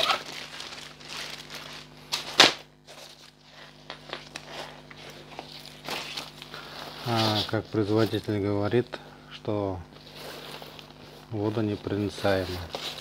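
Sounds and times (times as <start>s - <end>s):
plastic bag crinkling: 0.0s - 8.4s, 10.0s - 13.0s.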